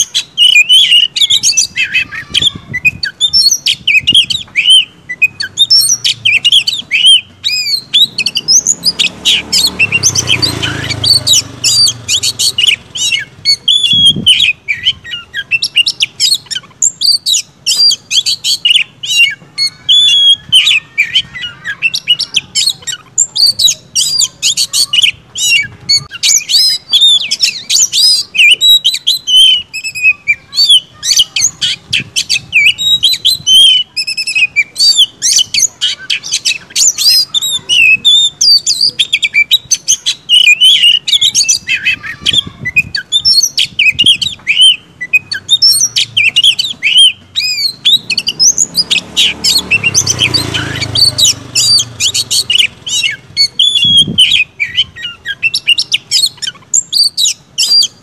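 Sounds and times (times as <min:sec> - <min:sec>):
songbird singing whistles and trills: 0:00.0 - 0:58.0.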